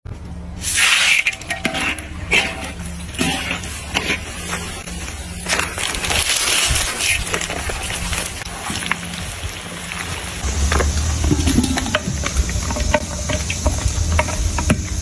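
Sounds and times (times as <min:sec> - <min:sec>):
steady low hum: 0:00.1 - 0:15.0
sizzling hiss: 0:00.6 - 0:15.0.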